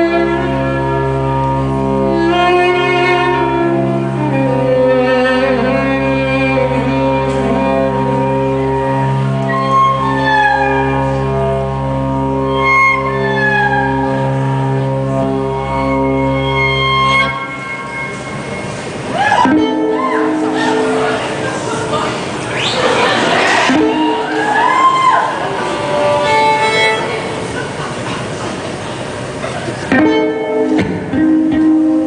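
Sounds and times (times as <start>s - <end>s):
violin music: 0.0s - 29.3s, 29.9s - 32.0s.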